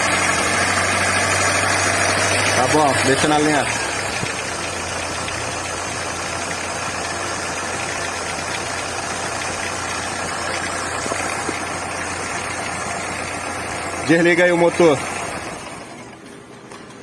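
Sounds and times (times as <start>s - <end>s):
car engine idling: 0.0s - 16.3s.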